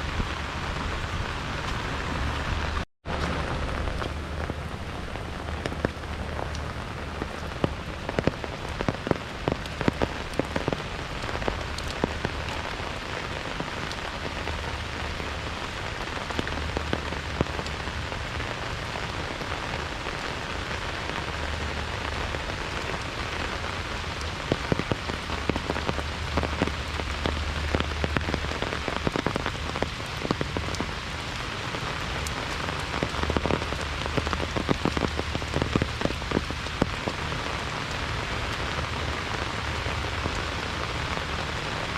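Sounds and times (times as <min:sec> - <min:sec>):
heavy rain falling: 0:00.0 - 0:41.9
sharp raindrop impacts: 0:00.0 - 0:41.9.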